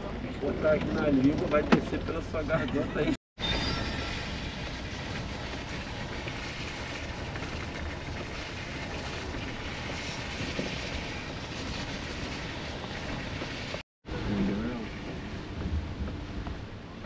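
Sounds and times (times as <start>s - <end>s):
vehicle road and engine rumble: 0.0s - 3.2s, 4.2s - 17.0s.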